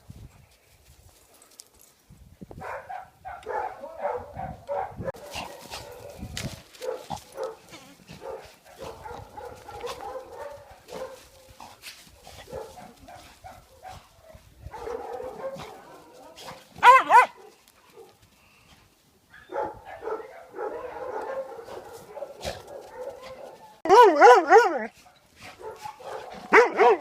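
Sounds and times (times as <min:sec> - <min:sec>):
dogs barking and yipping: 0:02.6 - 0:18.2, 0:19.3 - 0:27.0.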